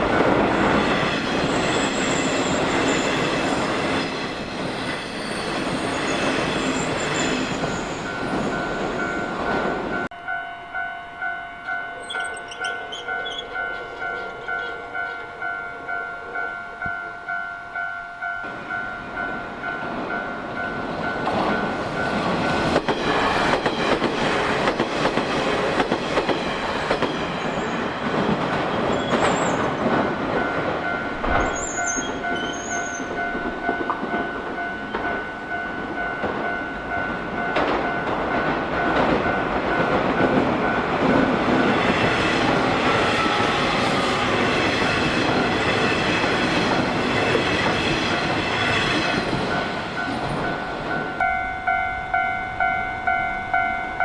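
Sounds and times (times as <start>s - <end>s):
level crossing warning bell: 0.0s - 24.8s, 26.4s - 46.6s, 47.2s - 54.0s.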